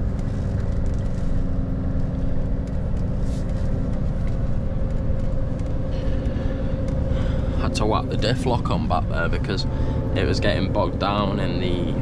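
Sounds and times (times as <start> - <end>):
diesel truck engine rumbling: 0.0 - 12.0
low hum: 0.0 - 12.0.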